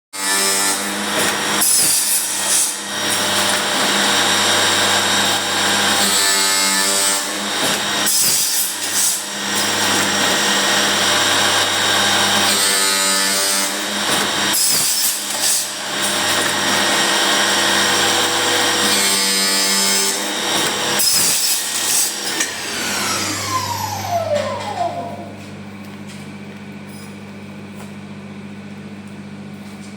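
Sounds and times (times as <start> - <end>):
harsh wood cutting noise: 0.2 - 26.4
wood-profiling machine motor hum: 0.3 - 26.8.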